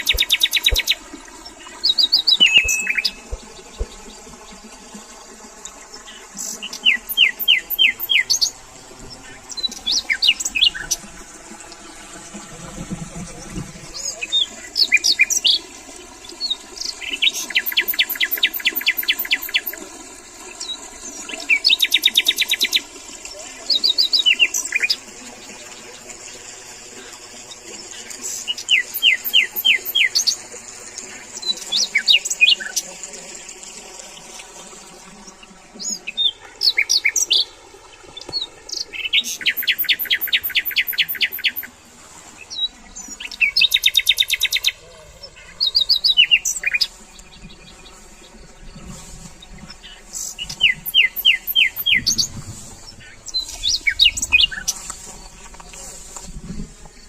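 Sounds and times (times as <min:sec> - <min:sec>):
birds singing with trills: 0:00.0 - 0:04.6, 0:06.0 - 0:11.1, 0:13.9 - 0:19.8, 0:20.4 - 0:25.0, 0:27.0 - 0:32.9, 0:35.2 - 0:41.8, 0:42.4 - 0:57.0.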